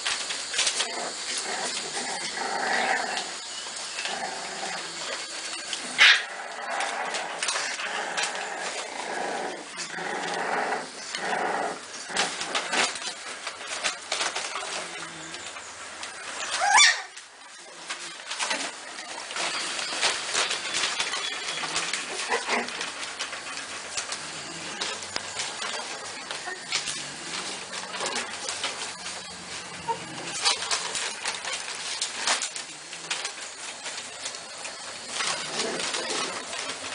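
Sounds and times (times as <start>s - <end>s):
newspaper crackling: 0.0s - 36.9s
puppies whimpering and squealing: 0.6s - 36.9s.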